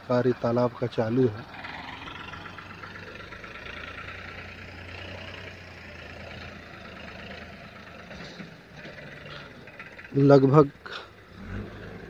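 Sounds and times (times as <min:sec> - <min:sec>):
heavy machinery engines humming: 0:00.0 - 0:12.0.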